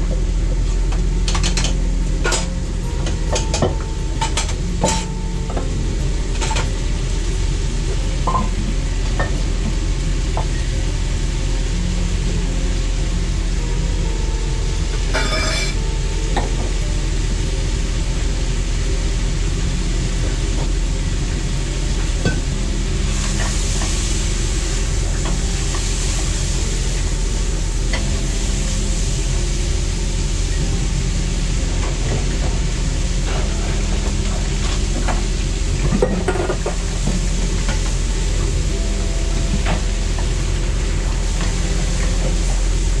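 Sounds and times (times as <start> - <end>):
low mechanical hum: 0.0 - 43.0
soft hiss: 0.0 - 43.0.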